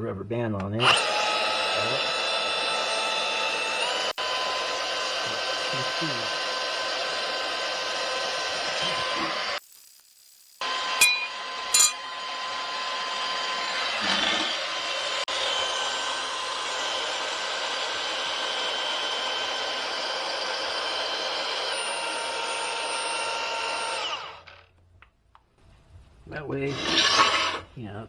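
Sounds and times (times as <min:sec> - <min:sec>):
bandsaw running: 0:00.8 - 0:09.6, 0:10.6 - 0:24.7, 0:26.6 - 0:27.7.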